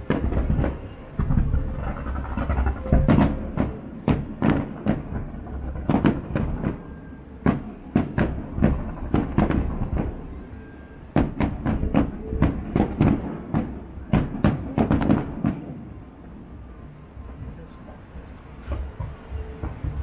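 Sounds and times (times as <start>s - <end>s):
fireworks bursting with sharp bangs: 0.0s - 20.0s.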